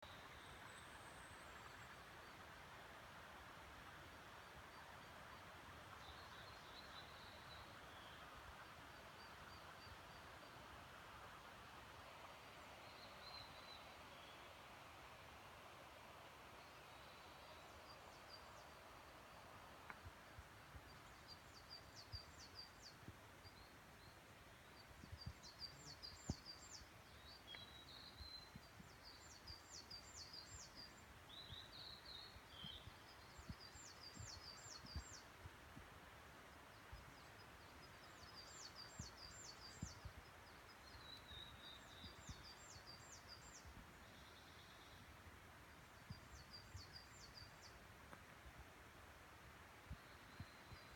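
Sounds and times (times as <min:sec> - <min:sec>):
faint hiss: 0:00.0 - 0:50.9.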